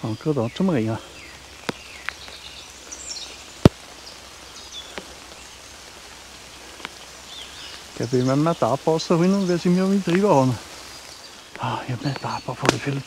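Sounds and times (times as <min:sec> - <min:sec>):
raindrops ticking: 0:00.0 - 0:13.0.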